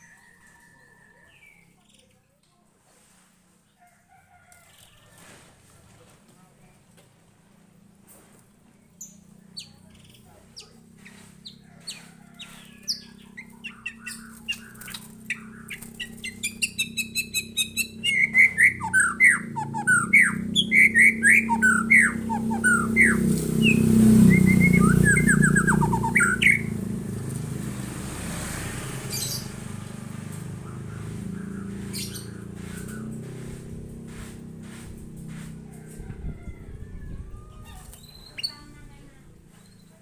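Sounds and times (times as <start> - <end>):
songbird singing: 0.0 - 2.5, 8.7 - 40.0.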